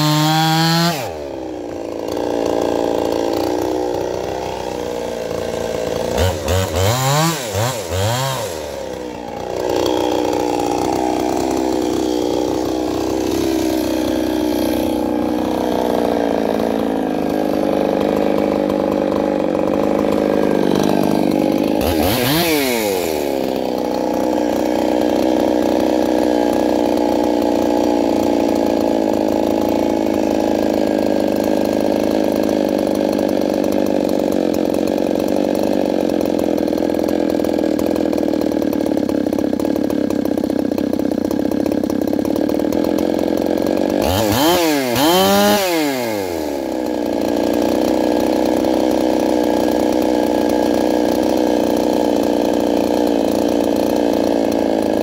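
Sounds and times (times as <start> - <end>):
chainsaw idling: 0.0 - 55.0
chainsaw revving: 0.0 - 55.0.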